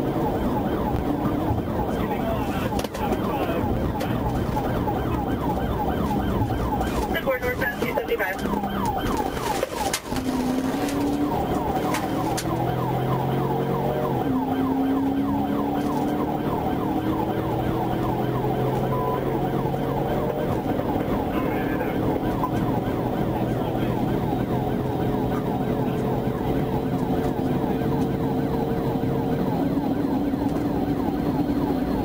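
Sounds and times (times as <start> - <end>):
car engine accelerating: 0.0 - 32.0
police siren yelp: 0.0 - 32.0
road noise: 0.0 - 32.0.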